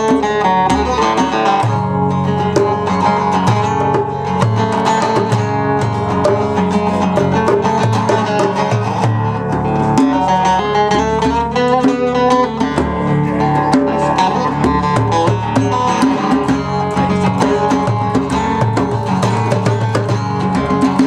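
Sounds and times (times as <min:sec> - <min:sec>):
picked guitar melody: 0:00.0 - 0:21.0
strummed string rhythm: 0:00.0 - 0:21.0.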